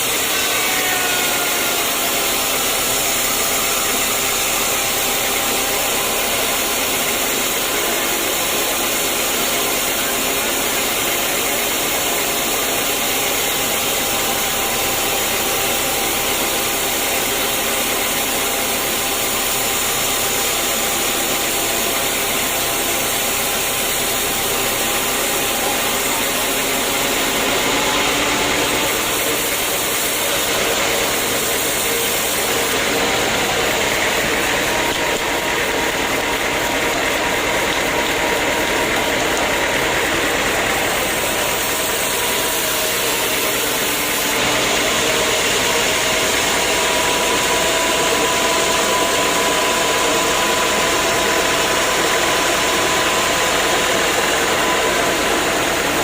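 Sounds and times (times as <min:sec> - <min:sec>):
sawmill machinery whirring: 0:00.0 - 0:56.0.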